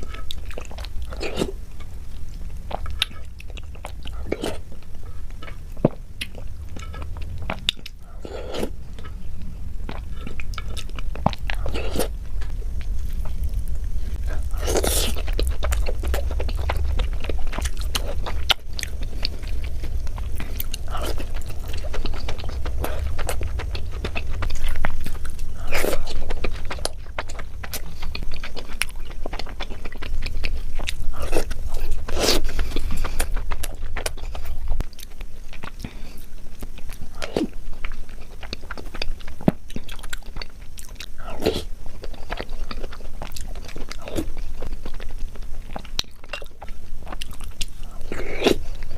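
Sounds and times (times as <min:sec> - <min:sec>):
low hum: 0:00.0 - 0:48.9
person chewing crunchy food: 0:00.0 - 0:48.9.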